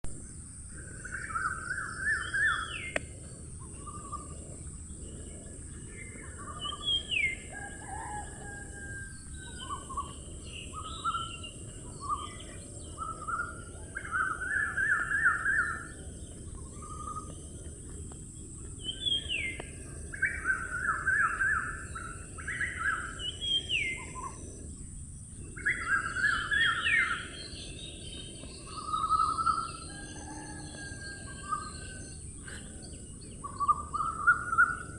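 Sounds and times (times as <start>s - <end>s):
low outdoor background: 0.0s - 34.9s
steady high-pitched hiss: 0.1s - 34.9s
wild birds singing: 0.1s - 34.9s.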